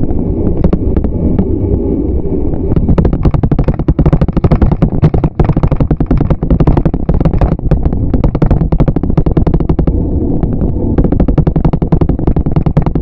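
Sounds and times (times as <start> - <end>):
bicycle rattling over rough pavement: 0.0 - 1.7, 2.4 - 13.0
steady low rumble: 0.0 - 13.0.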